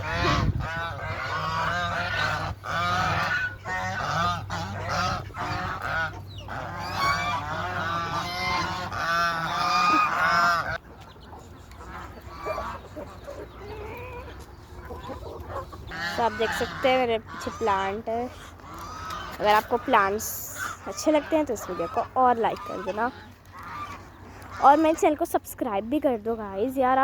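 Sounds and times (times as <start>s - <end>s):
geese honking: 0.0s - 25.9s.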